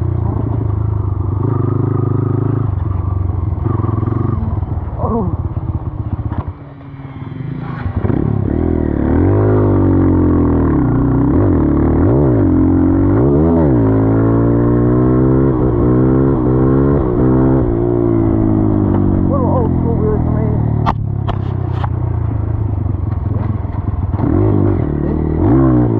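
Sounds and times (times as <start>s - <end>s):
dirt bike engine revving: 0.1s - 21.8s, 22.5s - 25.9s.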